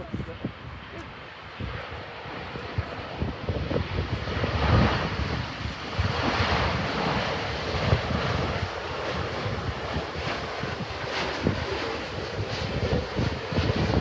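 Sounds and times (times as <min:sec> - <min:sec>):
jet engines roaring: 0:00.0 - 0:14.0
wind buffeting microphone: 0:00.0 - 0:14.0.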